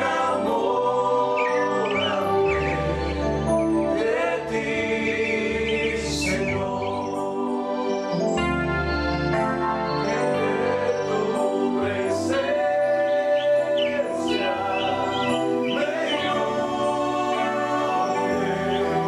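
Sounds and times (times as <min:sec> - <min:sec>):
men singing in harmony: 0:00.0 - 0:08.3, 0:10.0 - 0:19.0
electronic keyboard: 0:00.0 - 0:19.0.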